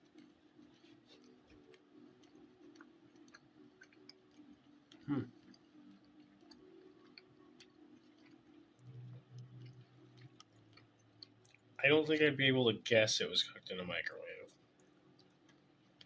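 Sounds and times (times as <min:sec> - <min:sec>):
person chewing: 0:00.0 - 0:11.8, 0:14.6 - 0:16.0
low room hum: 0:00.0 - 0:16.0.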